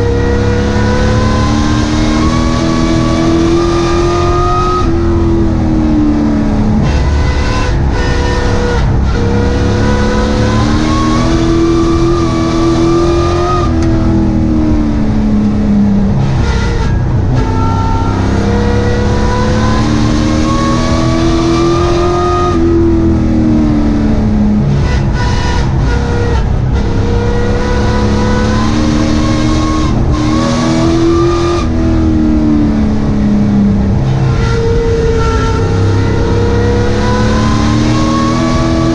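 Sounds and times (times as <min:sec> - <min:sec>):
race truck engine revving: 0:00.0 - 0:38.9.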